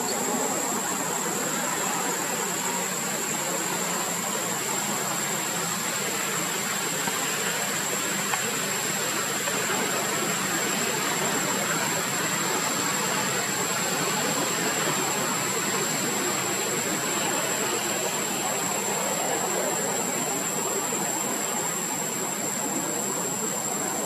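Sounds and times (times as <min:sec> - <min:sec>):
constant high-pitched whine: 0:00.0 - 0:24.0
even outdoor hiss: 0:00.0 - 0:24.0.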